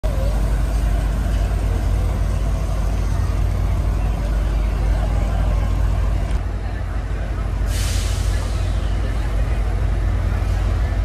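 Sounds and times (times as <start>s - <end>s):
diesel locomotive idling: 0.0s - 11.0s.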